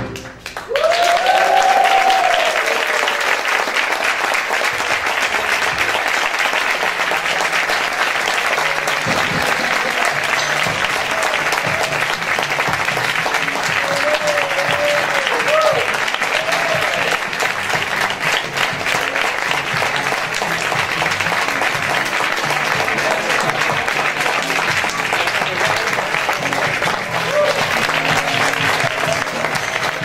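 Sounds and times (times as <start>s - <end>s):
audience applauding: 0.0s - 30.0s
people cheering: 0.0s - 30.0s.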